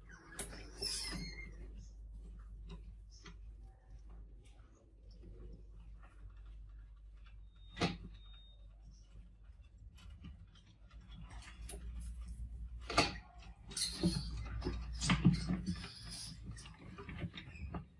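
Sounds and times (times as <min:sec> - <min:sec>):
mice scrabbling on wire mesh: 0:00.1 - 0:17.9.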